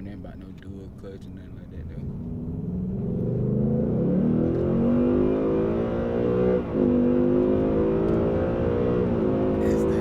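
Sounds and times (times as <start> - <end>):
car engine accelerating: 1.9 - 10.0.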